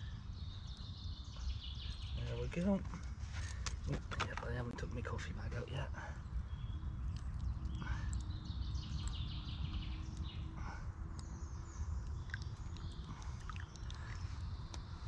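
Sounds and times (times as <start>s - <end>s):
birdsong: 0.0s - 15.0s
steady low rumble: 0.0s - 15.0s.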